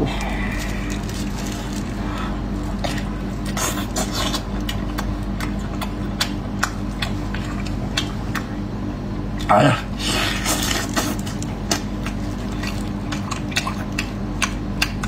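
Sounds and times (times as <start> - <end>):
steady low hum: 0.0 - 15.0
wet chewing and smacking: 0.1 - 15.0.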